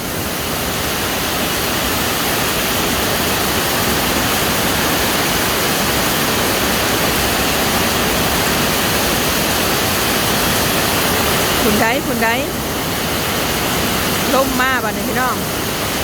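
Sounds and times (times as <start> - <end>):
heavy rain pouring: 0.0 - 16.0
wind: 0.0 - 16.0.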